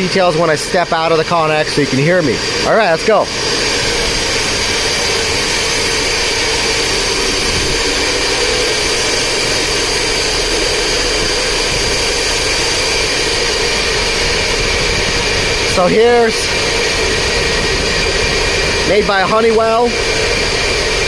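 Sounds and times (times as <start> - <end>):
cooling fans whirring: 0.0 - 21.0
large exhaust fans running: 0.0 - 21.0.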